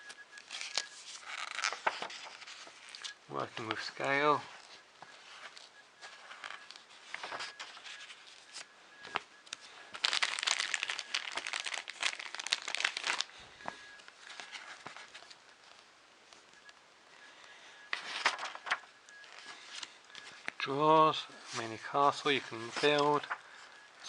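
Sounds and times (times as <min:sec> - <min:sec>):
magazine pages rustling: 0:00.0 - 0:16.8, 0:17.4 - 0:24.0.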